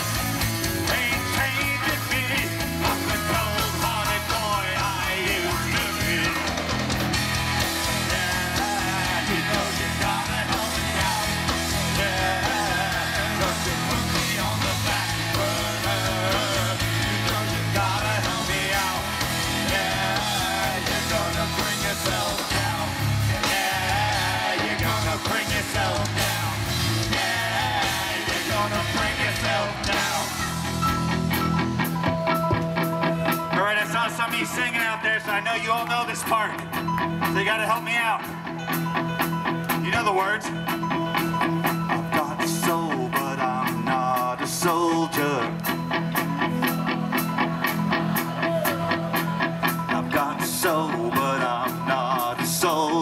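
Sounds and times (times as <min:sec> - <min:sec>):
live rock band playing: 0:00.0 - 0:53.0.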